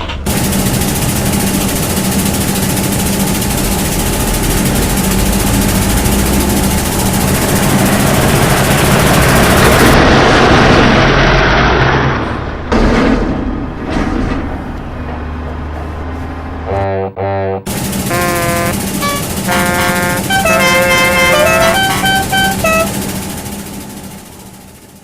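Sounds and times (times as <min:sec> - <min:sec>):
heavy engine humming: 0:00.0 - 0:25.0.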